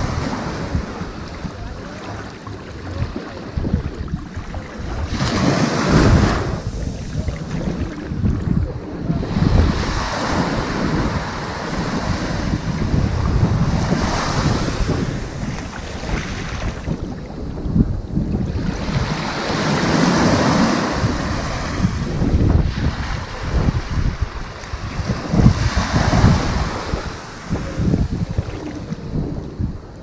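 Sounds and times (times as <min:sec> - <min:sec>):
waves washing onto beach: 0:00.0 - 0:30.0.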